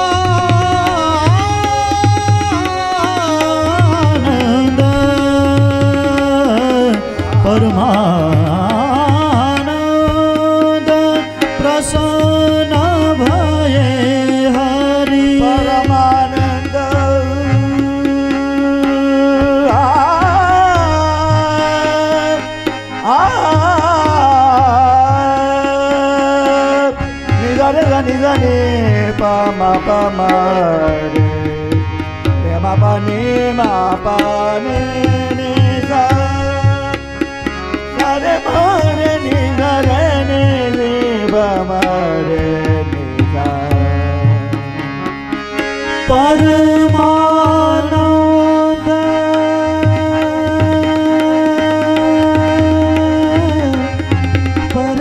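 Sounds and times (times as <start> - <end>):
harmonium: 0.0 - 55.0
man singing devotional song: 0.0 - 55.0
tabla beat: 0.0 - 55.0.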